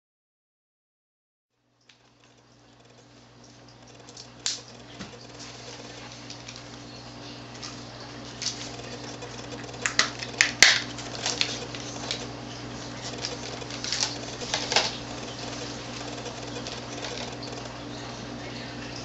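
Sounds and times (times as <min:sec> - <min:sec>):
steady low hum: 0:01.9 - 0:19.0.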